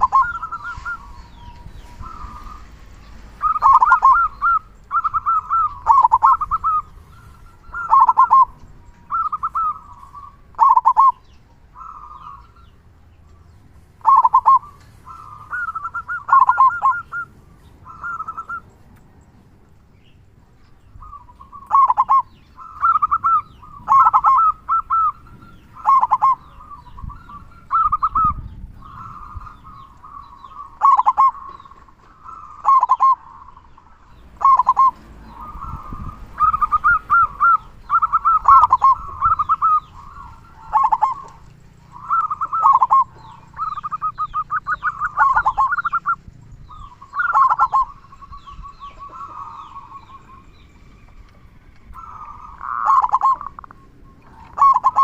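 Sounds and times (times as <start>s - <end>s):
dove cooing: 0.0s - 12.7s, 14.0s - 18.8s, 21.0s - 55.0s.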